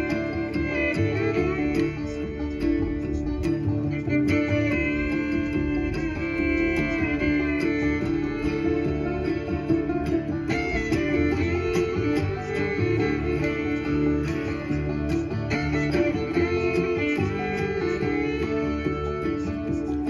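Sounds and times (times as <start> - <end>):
instrumental guitar music: 0.0 - 20.0.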